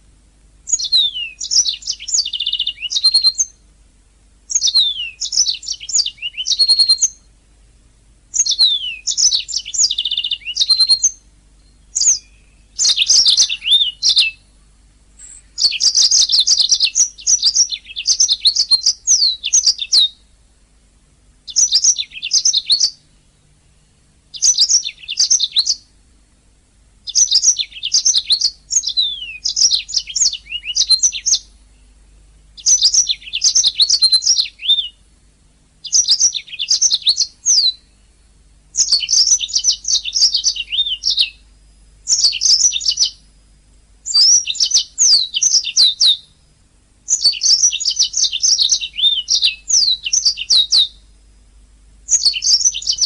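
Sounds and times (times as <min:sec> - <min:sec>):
canary singing trills: 0:00.0 - 0:03.7, 0:04.5 - 0:07.4, 0:08.3 - 0:20.4, 0:21.3 - 0:26.2, 0:27.0 - 0:51.2, 0:52.0 - 0:53.0.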